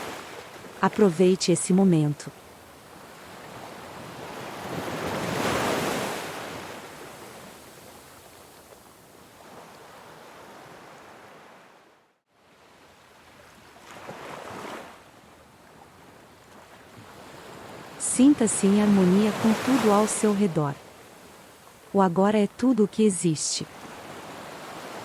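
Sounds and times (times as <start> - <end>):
ocean waves washing ashore: 0.0 - 25.0.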